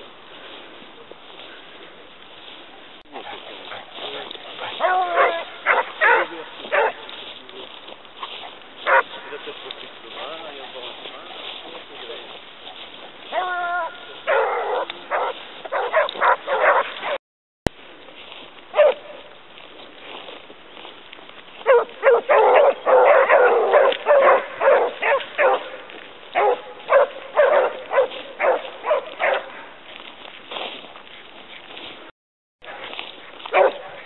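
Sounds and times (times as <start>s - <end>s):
hounds baying and barking: 1.3s - 17.2s, 18.7s - 34.0s.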